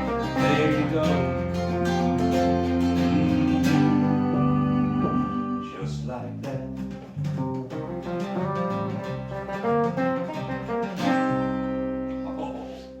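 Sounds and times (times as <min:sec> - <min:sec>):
acoustic guitar playing: 0:00.0 - 0:05.9, 0:06.9 - 0:13.0.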